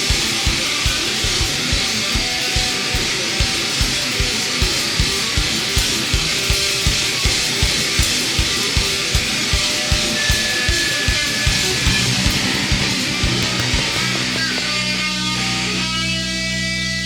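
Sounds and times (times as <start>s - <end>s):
fast kick drum beat: 0.0s - 14.4s
distorted electric guitar: 0.0s - 17.0s.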